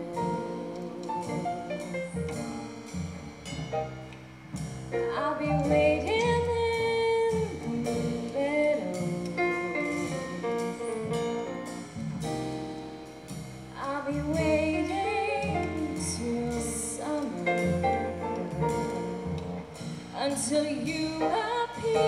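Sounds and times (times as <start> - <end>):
instrumental accompaniment: 0.0 - 22.0.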